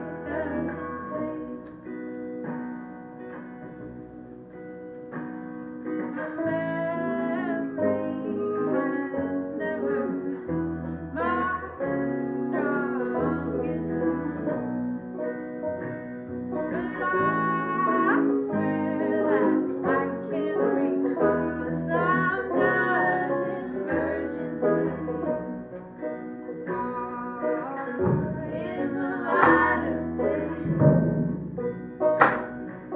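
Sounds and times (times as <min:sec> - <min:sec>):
women singing folk song: 0:00.0 - 0:02.1, 0:06.0 - 0:32.5
banjo: 0:00.0 - 0:32.9
plucked acoustic guitar: 0:00.0 - 0:32.9
upright bass notes: 0:00.0 - 0:32.9.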